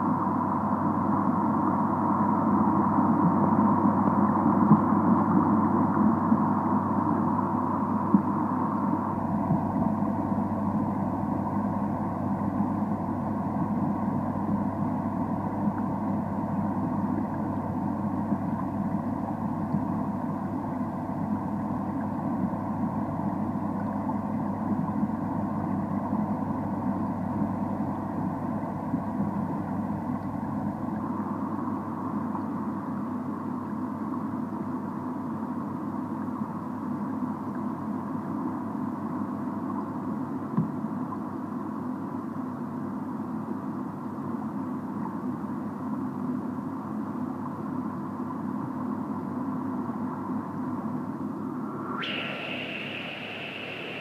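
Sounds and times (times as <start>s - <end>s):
machine hum with held tones: 0.0s - 54.0s.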